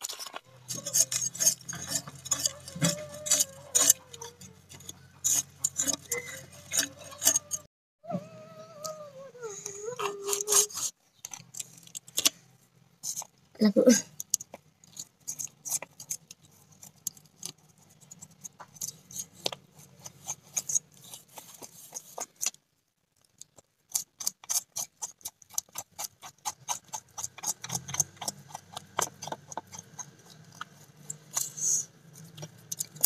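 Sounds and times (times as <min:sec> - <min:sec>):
knife scraping fish scales: 0:00.0 - 0:07.7, 0:09.8 - 0:12.3, 0:14.8 - 0:22.6, 0:23.9 - 0:33.0.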